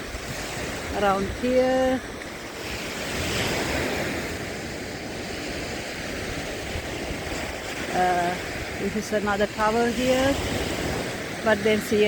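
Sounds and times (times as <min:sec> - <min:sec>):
waves washing on shore: 0:00.0 - 0:12.0
wind rumbling on microphone: 0:00.0 - 0:12.0.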